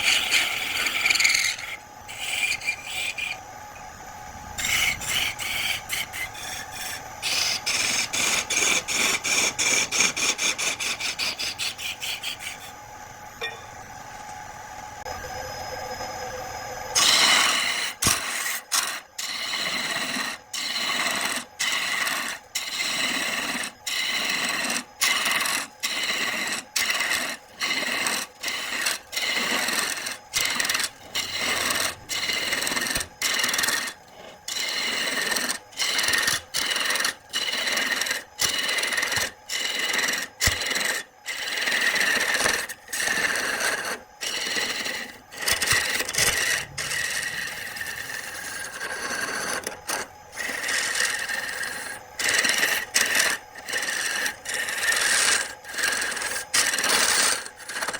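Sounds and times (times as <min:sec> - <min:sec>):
turning tool scraping wood on lathe: 0:00.0 - 0:03.4, 0:04.6 - 0:12.8, 0:17.0 - 0:57.9.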